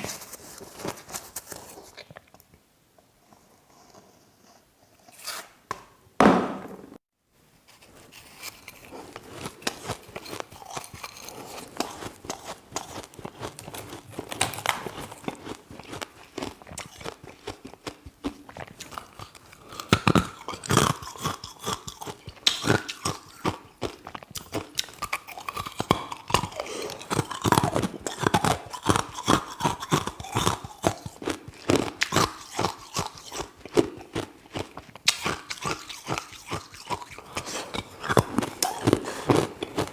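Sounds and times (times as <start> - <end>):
person crunching ice: 7.8 - 39.9.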